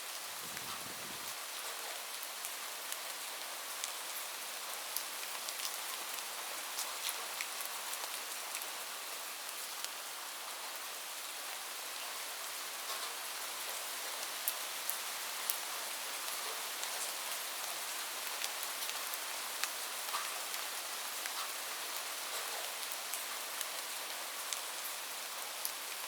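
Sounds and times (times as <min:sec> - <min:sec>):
steady rainfall hiss: 0:00.0 - 0:26.0.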